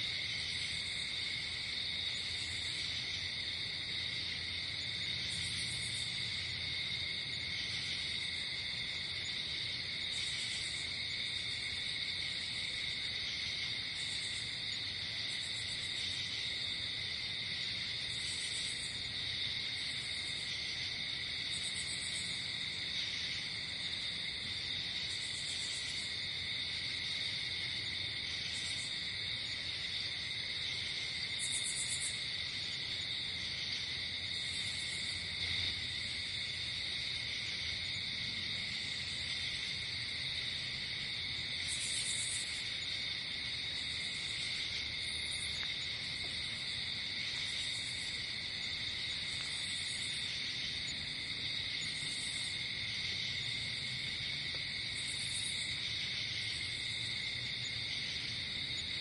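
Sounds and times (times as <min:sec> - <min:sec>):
crickets trilling: 0:00.0 - 0:59.0
insects chirping: 0:00.0 - 0:59.0.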